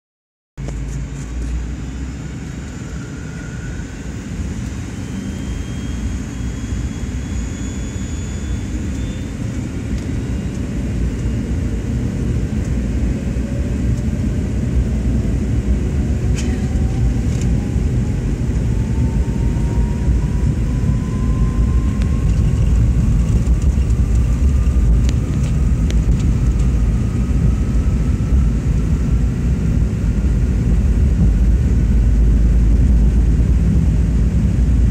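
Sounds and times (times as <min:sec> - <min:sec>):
jet engines at takeoff power: 0:00.6 - 0:34.9
wheels rumbling on runway: 0:00.6 - 0:34.9
rising thin whine: 0:00.7 - 0:11.9, 0:13.0 - 0:34.9.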